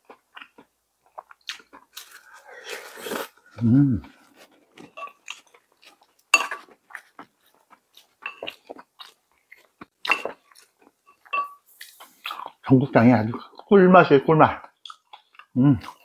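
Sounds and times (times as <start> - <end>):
chewing and mouth smacking: 0.0 - 12.7, 14.6 - 16.0.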